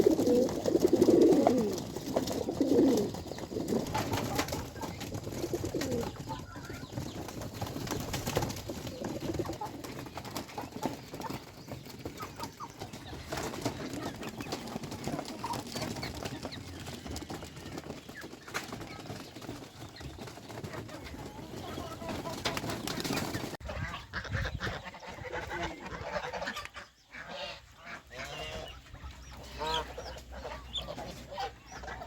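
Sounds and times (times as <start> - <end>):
farm birds calling softly: 0.0 - 32.0.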